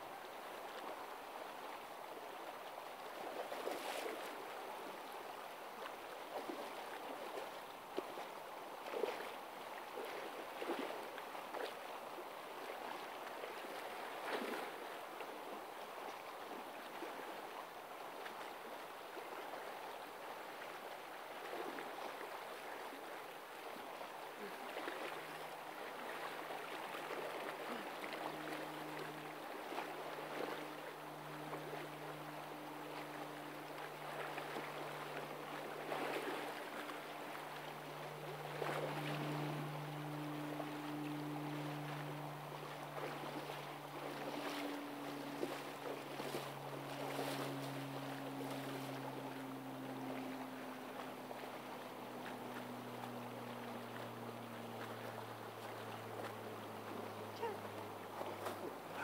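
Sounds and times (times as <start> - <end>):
river water flowing: 0.0 - 59.0
faint low hum: 8.9 - 59.0.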